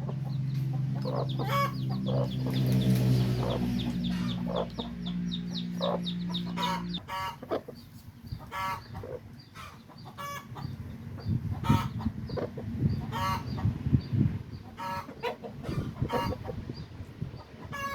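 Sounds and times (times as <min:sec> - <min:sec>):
chickens calling: 0:00.0 - 0:17.9
chicks peeping: 0:00.0 - 0:17.9.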